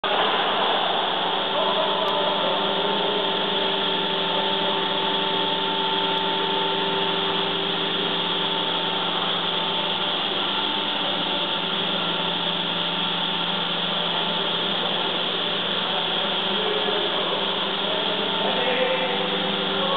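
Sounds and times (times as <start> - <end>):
humidifier humming and hissing: 0.0 - 19.9.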